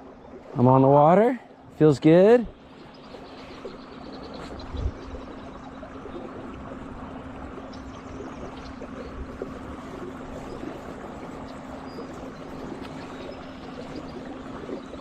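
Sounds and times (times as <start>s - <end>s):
steady low hum: 0.0s - 15.0s
water lapping against hull: 0.0s - 15.0s.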